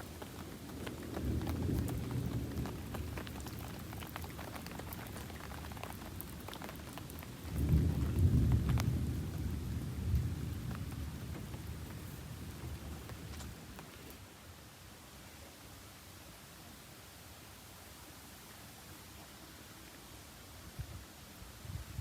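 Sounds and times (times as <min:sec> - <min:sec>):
rain falling: 0:00.0 - 0:21.4.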